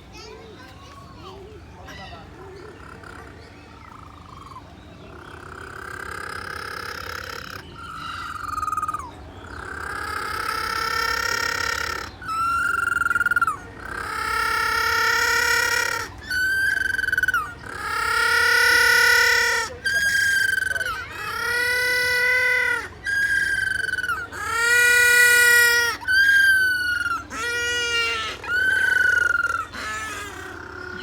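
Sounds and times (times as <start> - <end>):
penguin braying: 1.9 - 31.0.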